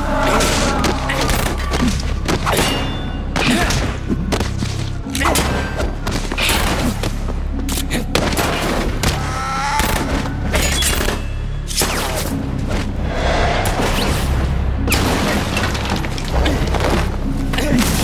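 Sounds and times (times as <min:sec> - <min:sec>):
background music with low bass: 0:00.0 - 0:18.0.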